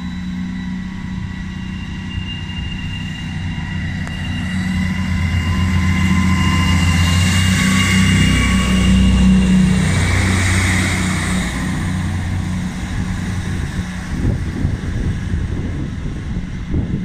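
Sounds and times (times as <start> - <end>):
diesel train engine hum: 0.0 - 17.0
wind buffeting microphone: 2.2 - 17.0.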